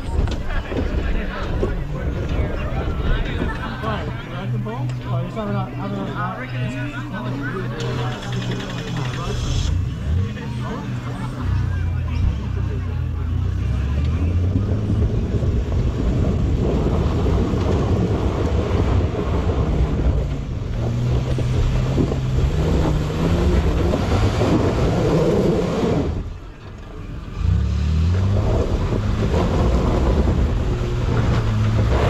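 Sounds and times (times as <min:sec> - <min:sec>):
engine revving uphill: 0:00.0 - 0:32.0.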